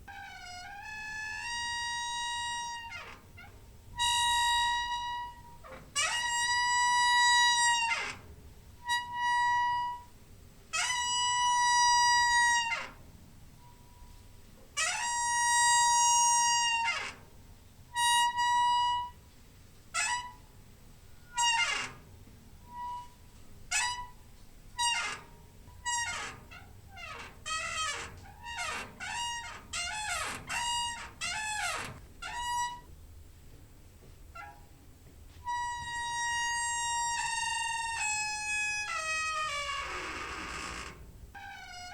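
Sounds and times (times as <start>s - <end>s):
door hinge squeaking: 0.0s - 10.1s, 10.8s - 13.0s, 14.8s - 17.3s, 18.0s - 19.2s, 19.9s - 20.5s, 21.2s - 32.9s, 34.3s - 34.8s, 35.4s - 41.9s.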